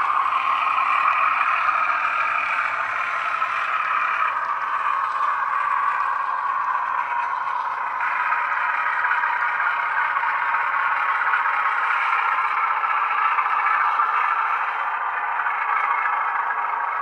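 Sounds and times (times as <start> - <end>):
diesel engine sound through small speakers: 0.0 - 17.0.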